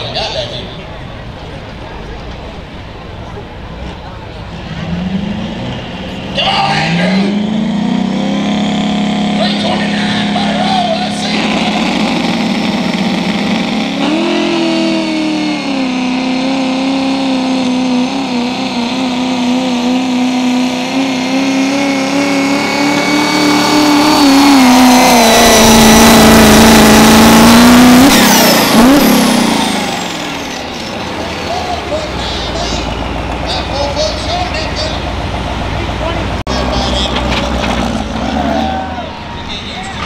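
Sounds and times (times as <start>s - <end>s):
diesel truck engine at high revs: 0.0s - 40.0s.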